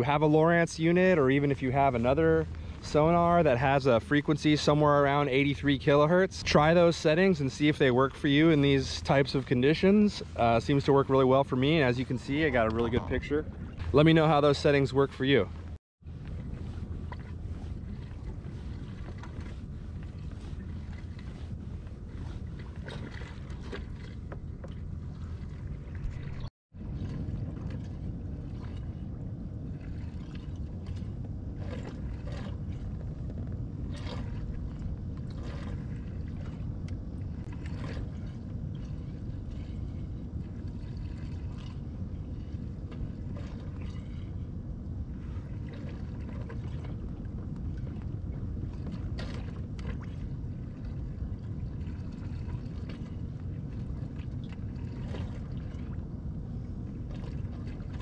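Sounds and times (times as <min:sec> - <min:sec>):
water rumbling along kayak hull: 0:00.0 - 0:58.0
faint splashes and ticks: 0:06.8 - 0:58.0.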